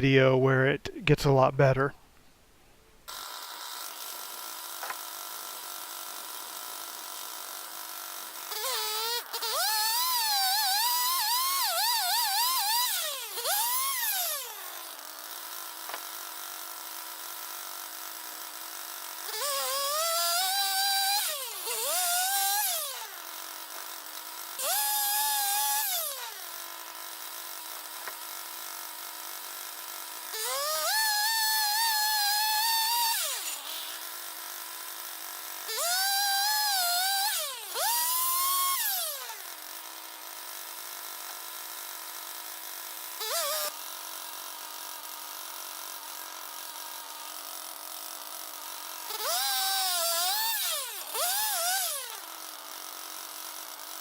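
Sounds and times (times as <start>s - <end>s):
sawmill humming: 3.1s - 44.0s, 44.6s - 52.4s
circular sawmill blade cutting: 3.1s - 54.0s.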